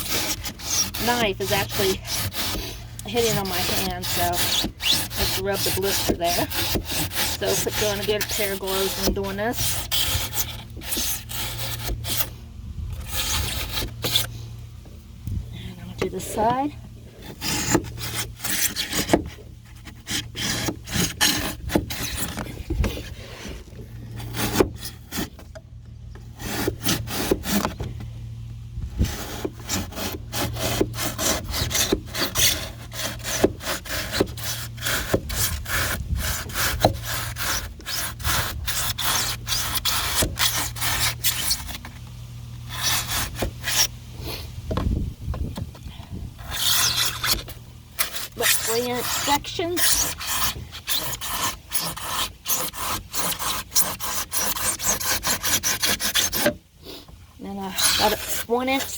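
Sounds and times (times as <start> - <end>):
knife sawing through foam: 0.0 - 14.3, 17.2 - 25.4, 26.4 - 27.8, 29.0 - 41.9, 42.7 - 44.4, 46.4 - 58.9.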